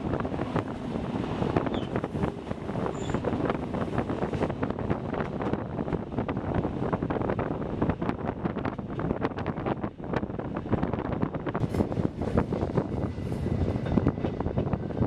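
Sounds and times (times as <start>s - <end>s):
train wheels rumbling: 0.0s - 15.0s
wind buffeting microphone: 0.0s - 15.0s.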